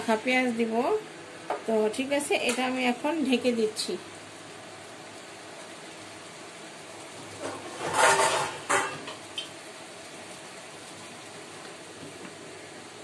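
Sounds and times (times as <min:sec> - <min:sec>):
pot of water boiling: 0:00.0 - 0:13.0.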